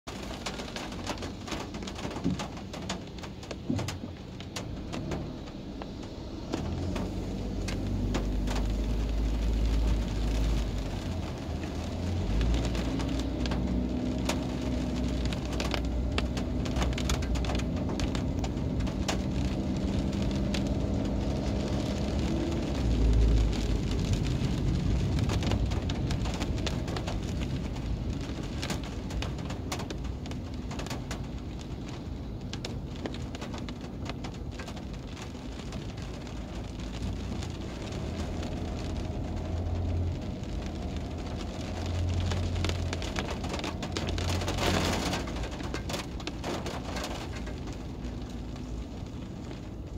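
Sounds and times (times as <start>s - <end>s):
raindrops tapping on a car: 0.0s - 49.9s
tyres swishing on wet road: 0.0s - 49.9s.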